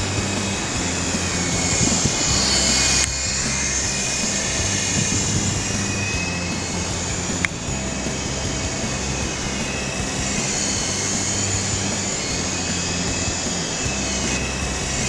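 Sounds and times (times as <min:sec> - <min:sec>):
background music: 0:00.0 - 0:15.0
toy helicopter motors whining: 0:00.0 - 0:15.0.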